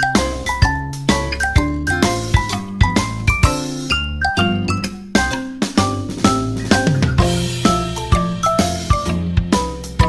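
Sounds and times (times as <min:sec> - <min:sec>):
cheerful bell-like melody: 0:00.0 - 0:09.2
held bass notes: 0:00.0 - 0:10.0.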